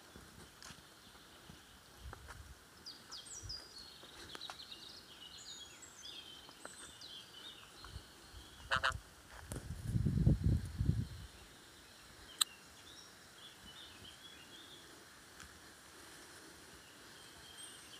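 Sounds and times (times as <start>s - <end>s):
quiet forest ambience: 0.0s - 17.9s.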